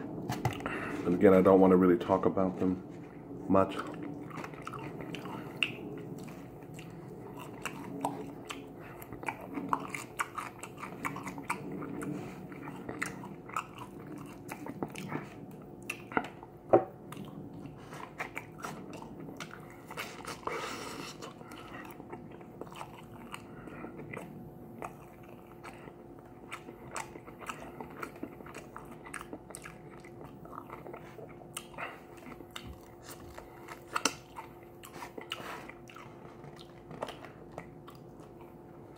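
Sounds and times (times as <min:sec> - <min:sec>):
faint steady hum: 0:00.0 - 0:38.9
person chewing crispy chicken: 0:02.6 - 0:38.9.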